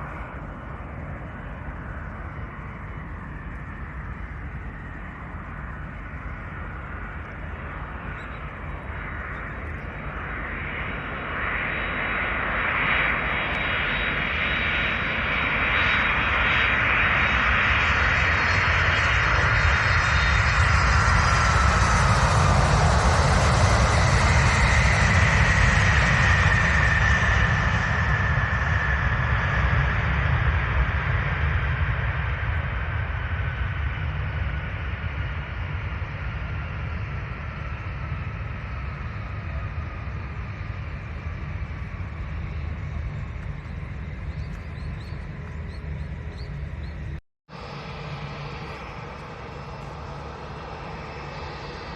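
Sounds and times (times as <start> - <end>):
jet engine whine: 0.0 - 51.9
low jet engine rumble: 0.0 - 51.9.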